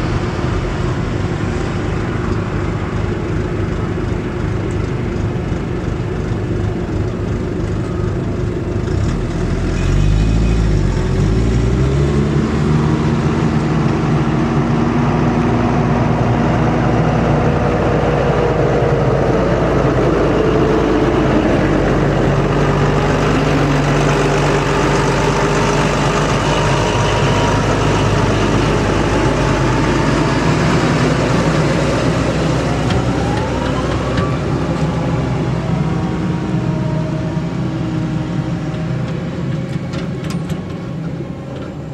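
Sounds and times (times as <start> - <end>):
tractor diesel engine running: 0.0 - 41.9
truck engine pulling away: 0.0 - 41.9.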